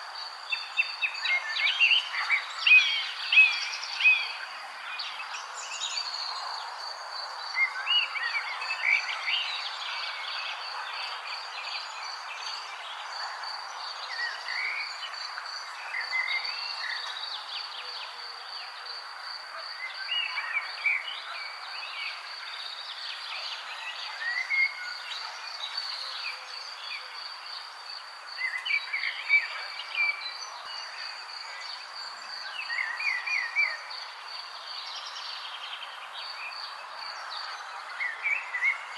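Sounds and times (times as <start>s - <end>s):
outdoor ambience hiss: 0.0s - 38.9s
songbirds chirping: 0.0s - 38.9s.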